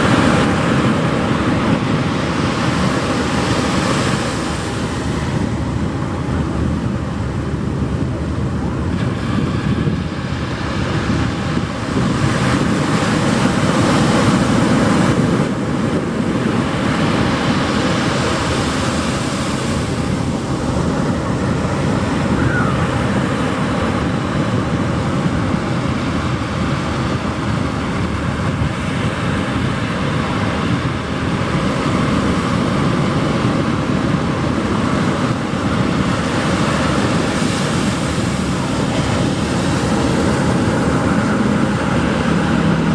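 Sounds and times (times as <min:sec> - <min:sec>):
ocean surf roaring: 0:00.0 - 0:42.9
wind buffeting microphone: 0:00.0 - 0:42.9.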